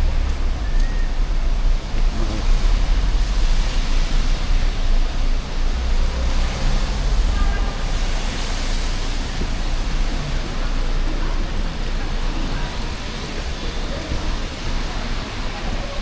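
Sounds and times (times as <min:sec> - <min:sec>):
engine rumble: 0:00.0 - 0:16.0
tyres hissing on wet road: 0:00.0 - 0:16.0.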